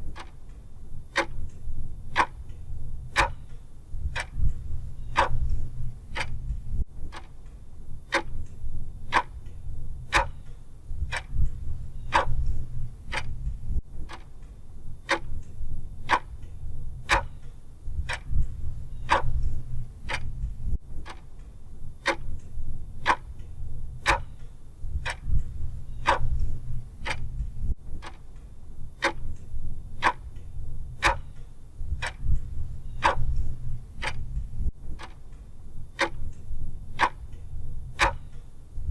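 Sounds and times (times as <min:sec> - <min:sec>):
low hum: 0:00.0 - 0:07.1, 0:07.8 - 0:35.0, 0:35.6 - 0:38.9
clock ticking: 0:00.0 - 0:38.9.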